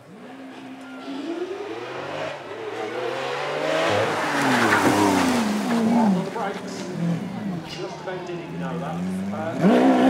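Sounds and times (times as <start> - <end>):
car engine accelerating hard: 0.0 - 7.7, 8.5 - 10.0.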